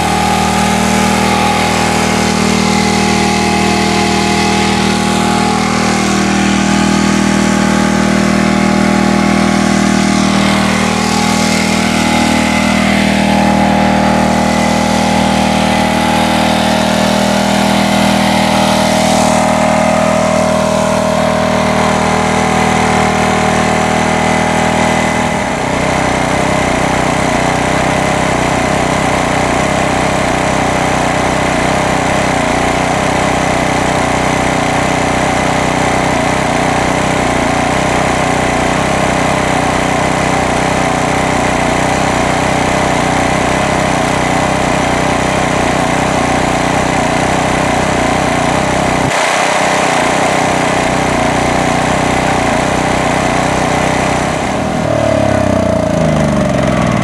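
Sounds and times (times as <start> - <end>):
generator engine running: 0.0 - 57.0.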